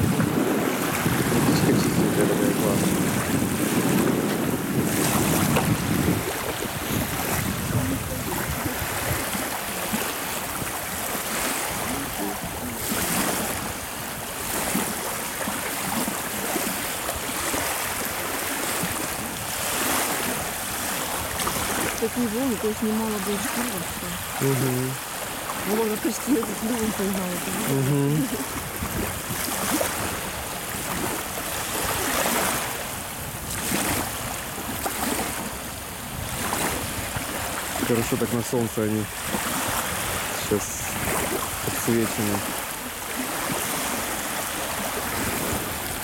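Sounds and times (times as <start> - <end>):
wind buffeting microphone: 0.0 - 24.7, 25.4 - 38.0, 39.0 - 42.5, 44.7 - 46.0
waves splashing on shore: 0.0 - 46.0.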